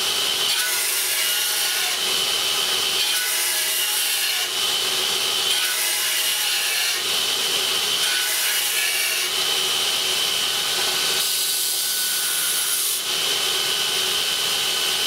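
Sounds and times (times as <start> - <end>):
belt grinder grinding metal: 0.0 - 15.0.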